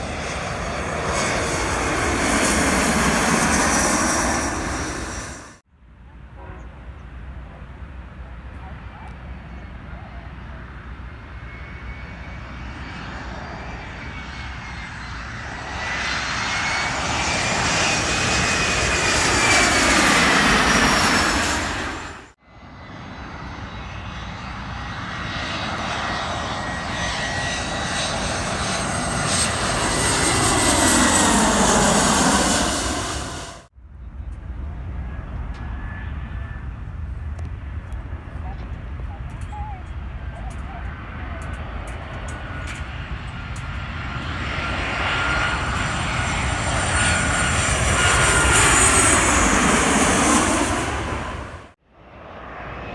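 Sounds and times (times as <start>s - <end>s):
airliner passing overhead: 0.0s - 52.9s.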